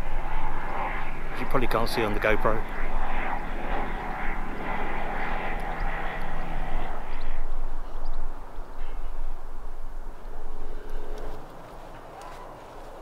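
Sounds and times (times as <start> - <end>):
aeroplane engine drone: 0.0 - 13.0.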